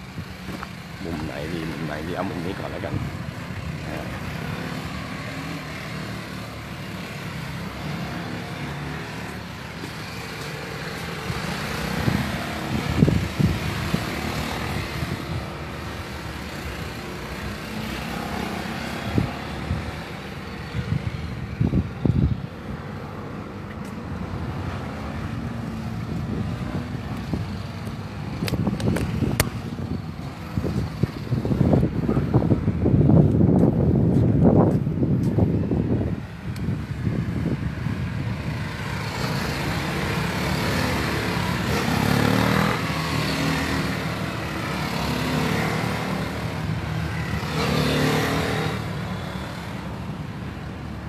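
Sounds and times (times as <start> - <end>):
motorcycle engines passing: 0.0 - 51.0.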